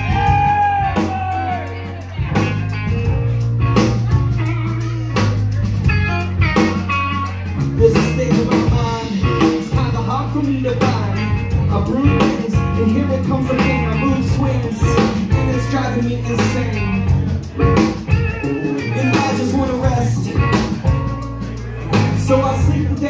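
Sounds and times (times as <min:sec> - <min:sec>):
drum kit steady beat: 0:00.0 - 0:23.0
electric bass long low notes: 0:00.0 - 0:23.0
electric guitars: 0:00.0 - 0:23.0.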